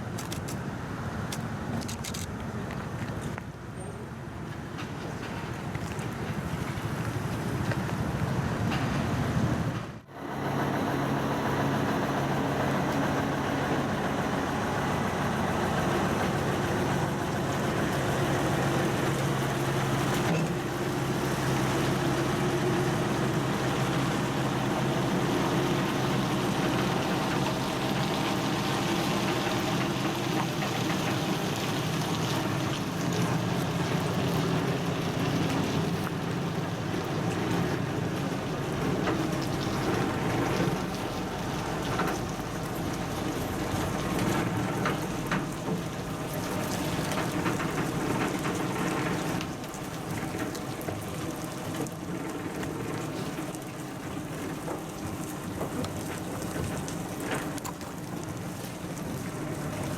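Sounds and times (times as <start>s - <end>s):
diesel truck engine idling: 10.1s - 59.9s.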